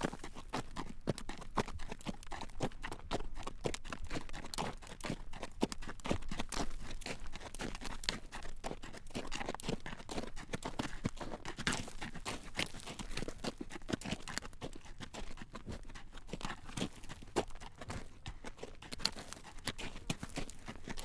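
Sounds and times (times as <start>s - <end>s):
horse hooves clip-clopping on road: 0.0s - 21.0s.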